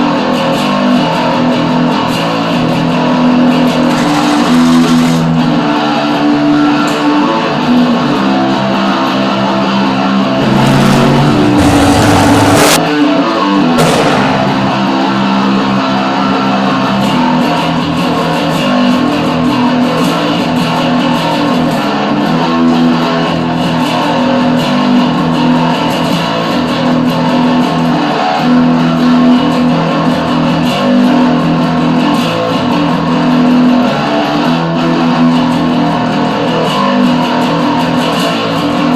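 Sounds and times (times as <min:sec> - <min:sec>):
electric guitar playing garage rock: 0:00.0 - 0:38.9.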